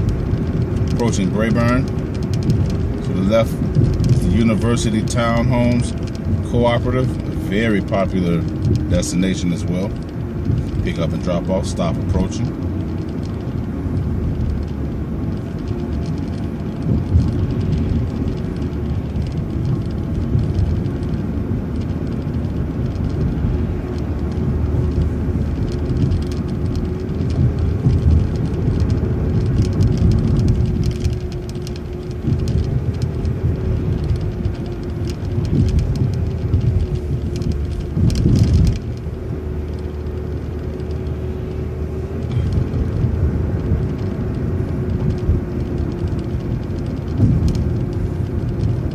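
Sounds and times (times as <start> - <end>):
bus engine and road rumble: 0.0 - 48.9
constant whine: 0.0 - 48.9.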